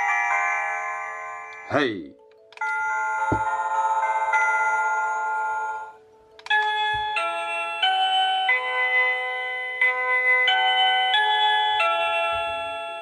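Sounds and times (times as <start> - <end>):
electronic doorbell chime melody: 0.0 - 1.8, 2.5 - 13.0.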